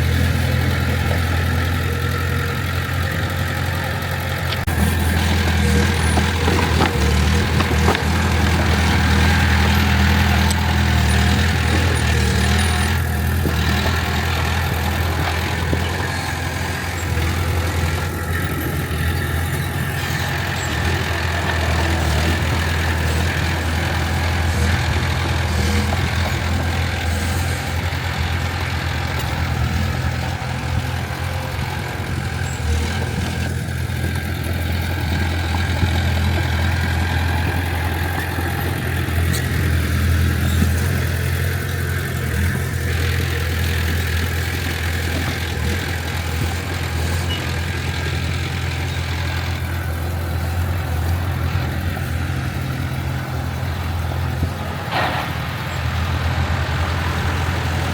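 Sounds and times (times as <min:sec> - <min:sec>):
heavy machinery diesel engine: 0:00.0 - 0:57.9.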